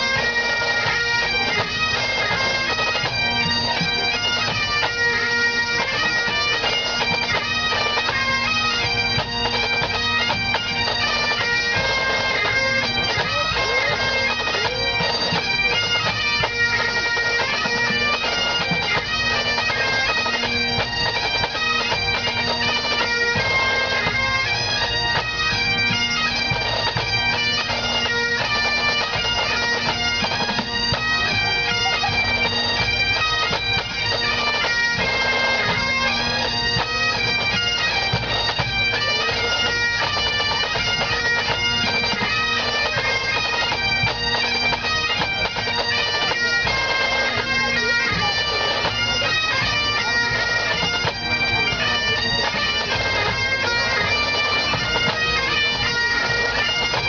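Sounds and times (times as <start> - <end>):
bagpipes playing: 0.0 - 57.0
pipe band drums: 0.0 - 57.0.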